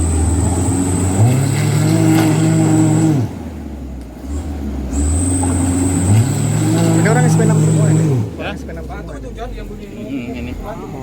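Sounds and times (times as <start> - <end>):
truck diesel engine revving: 0.0 - 11.0.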